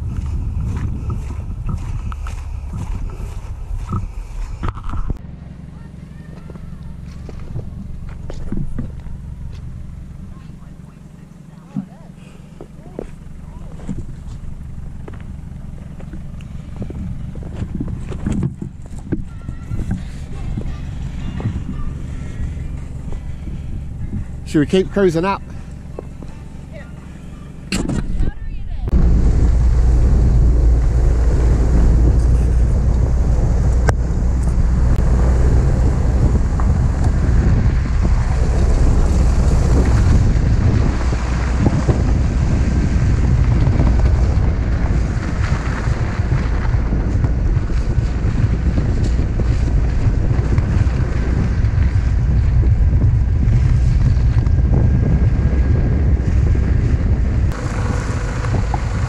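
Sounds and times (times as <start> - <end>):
vehicle engine running: 0.0 - 59.0
wind buffeting microphone: 0.0 - 59.0.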